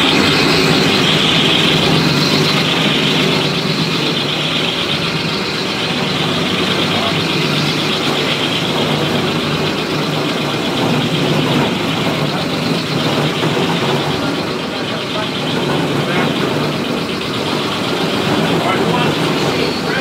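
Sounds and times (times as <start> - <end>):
floor grinder drone: 0.0 - 20.0.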